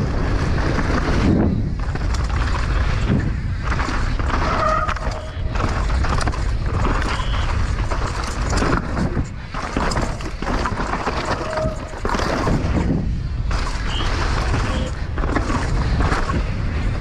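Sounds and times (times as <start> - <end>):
bike chain and frame rattling: 0.0 - 17.0
wind rushing over microphone: 0.0 - 17.0
tyres crunching over dirt and rocks: 0.3 - 17.0.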